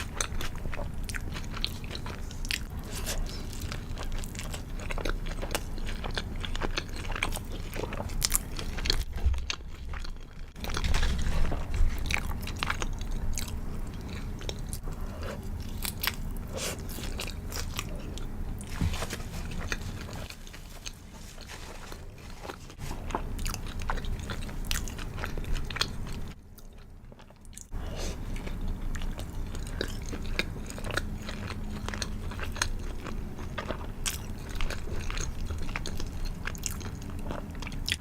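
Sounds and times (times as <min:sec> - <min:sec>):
chewing and crunching: 0:00.0 - 0:38.0.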